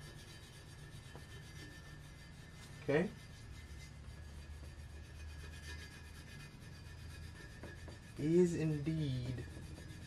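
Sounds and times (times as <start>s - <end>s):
plastic scraper rubbing on metal tube: 0.0s - 10.0s.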